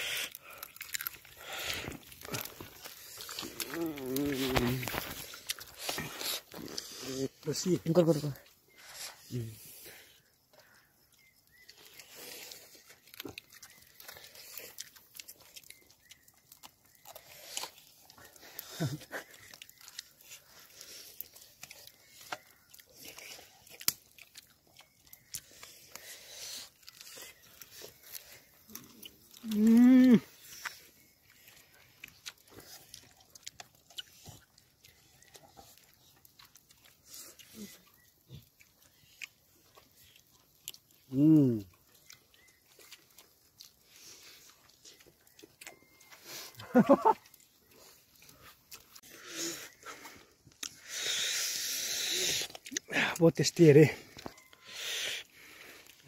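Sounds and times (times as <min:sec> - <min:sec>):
crunching and tearing chicken: 0:00.0 - 0:07.2, 0:10.6 - 0:56.0
person chewing: 0:00.0 - 0:56.0.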